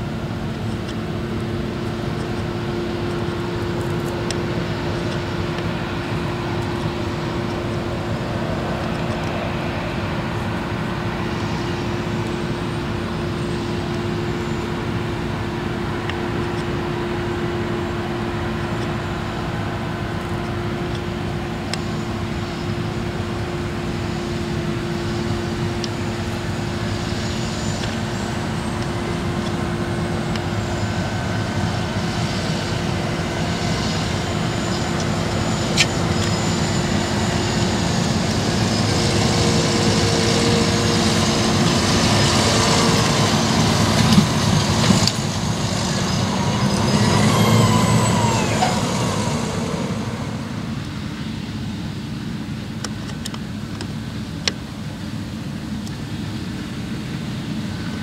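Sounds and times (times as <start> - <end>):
tractor diesel engine: 0.0 - 57.7
combine harvester working: 0.0 - 58.0.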